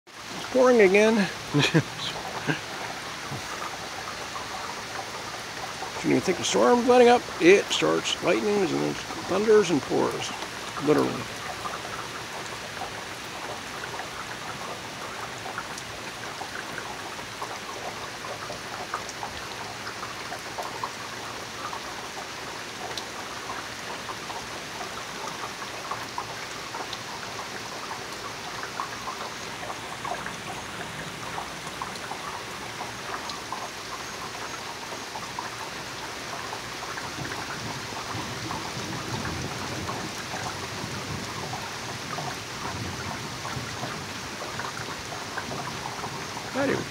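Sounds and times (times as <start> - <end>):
rain pouring: 0.1 - 46.9.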